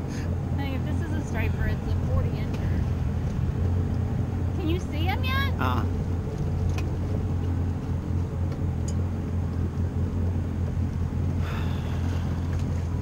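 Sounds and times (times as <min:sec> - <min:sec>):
boat engine humming: 0:00.0 - 0:13.0
wind: 0:00.0 - 0:13.0.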